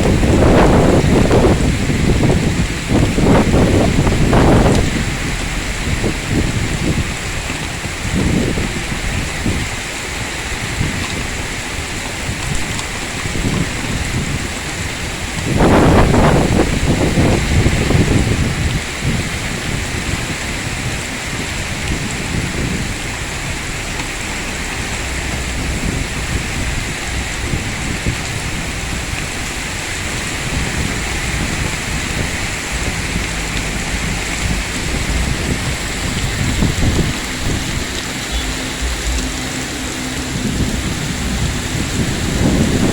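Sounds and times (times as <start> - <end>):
heavy rain pouring: 0.0 - 42.9
low rumbling surges: 0.0 - 42.9.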